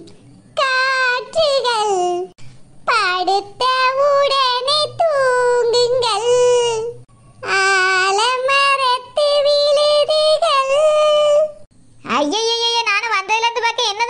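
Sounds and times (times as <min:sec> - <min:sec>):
high cartoon voice singing: 0:00.0 - 0:14.0.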